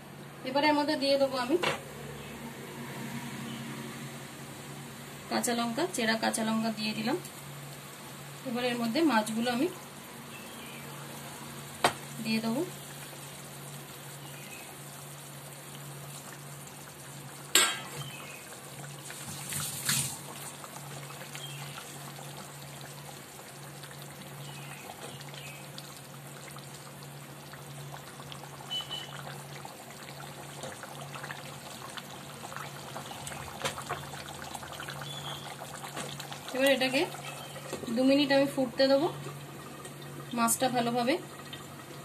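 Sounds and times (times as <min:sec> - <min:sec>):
curry bubbling and sizzling: 0:01.0 - 0:42.0.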